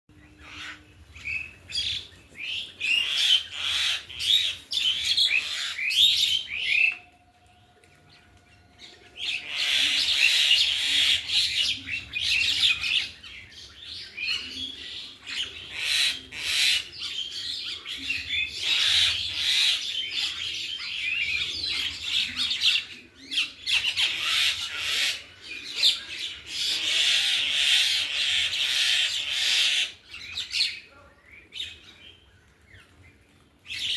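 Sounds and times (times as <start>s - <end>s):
small birds chirping chorus: 0.1s - 33.9s.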